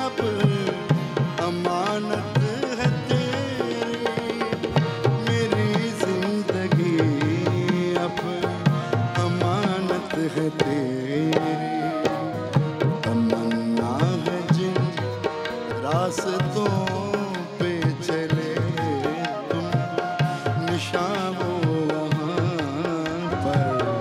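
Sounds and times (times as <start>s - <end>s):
harmonium: 0.0s - 24.0s
man singing: 0.0s - 24.0s
percussion: 0.0s - 24.0s.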